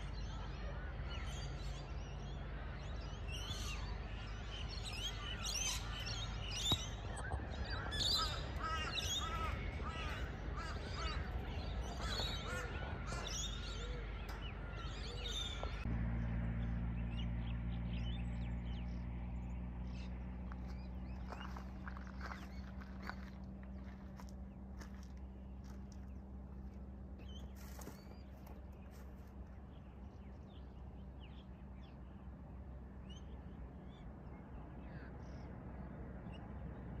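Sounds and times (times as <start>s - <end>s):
birds calling: 0.0s - 37.0s
diesel locomotives rumbling: 0.0s - 37.0s
engine hum with low tones: 0.0s - 37.0s.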